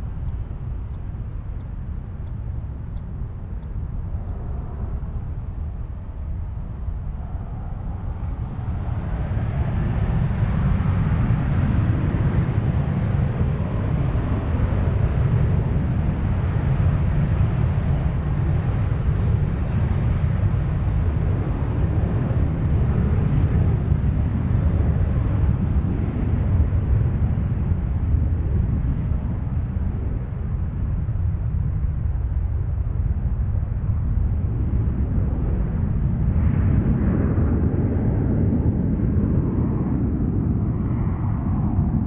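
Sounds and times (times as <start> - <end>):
jet engines at takeoff thrust: 0.0 - 42.0.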